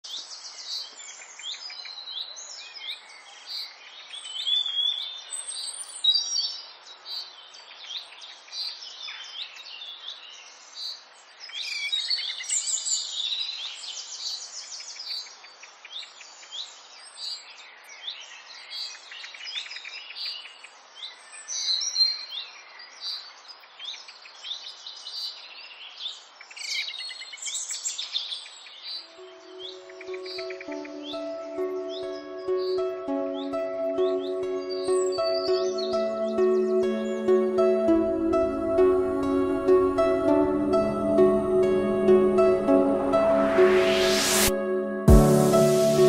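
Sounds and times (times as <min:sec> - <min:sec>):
songbirds chirping and trilling: 0:00.2 - 0:40.5.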